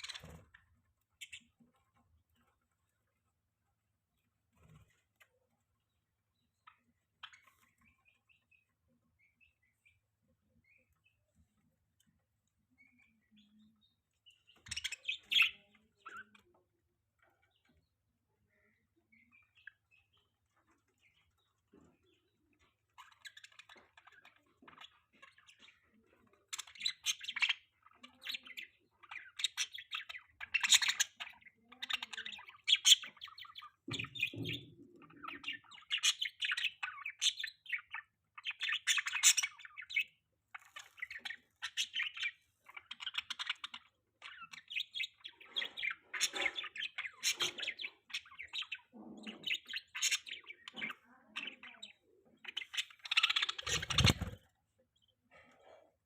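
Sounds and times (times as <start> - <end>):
parrots chirping and chattering: 0.0 - 56.0.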